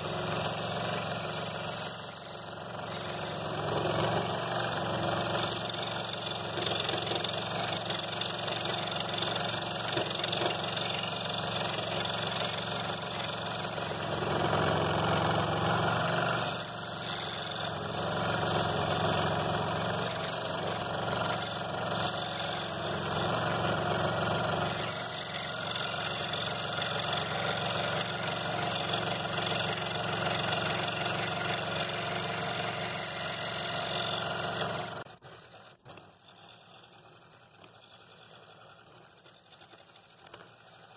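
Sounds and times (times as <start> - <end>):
scroll saw cutting wood: 0.0 - 40.9.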